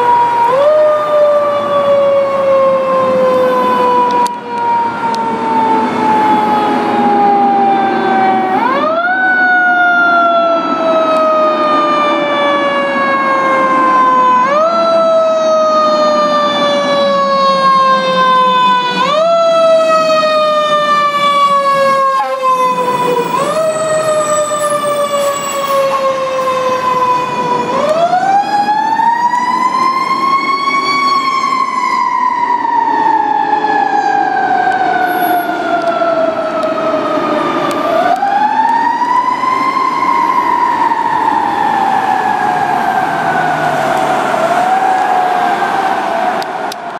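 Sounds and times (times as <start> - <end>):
fire truck sirens wailing: 0.0 - 46.9.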